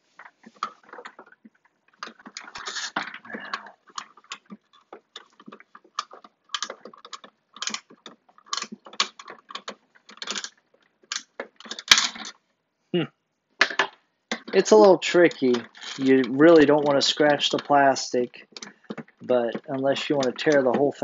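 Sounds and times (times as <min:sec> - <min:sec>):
hard plastic parts clicking and rattling: 0:00.1 - 0:12.4, 0:13.6 - 0:21.0.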